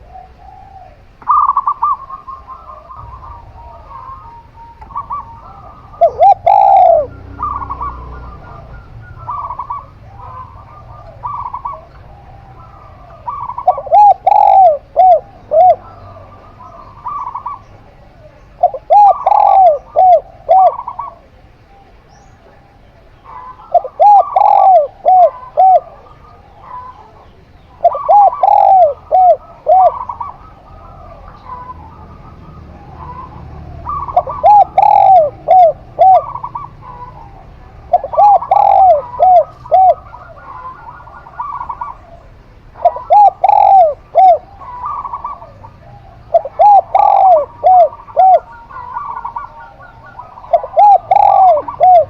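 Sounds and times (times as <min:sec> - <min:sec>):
doves cooing: 0:00.0 - 0:52.0.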